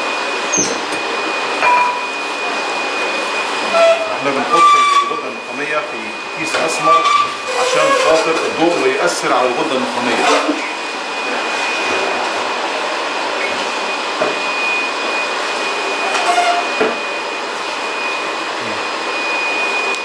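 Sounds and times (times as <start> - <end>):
electric machine running: 0.0 - 20.0
high whine: 0.0 - 20.0.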